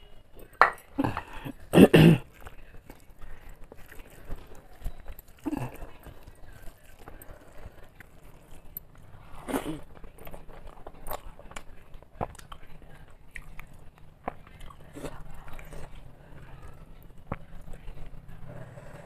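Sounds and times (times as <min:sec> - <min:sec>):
person chewing food: 0:00.4 - 0:19.0
fingers squishing wet rice: 0:01.6 - 0:18.2.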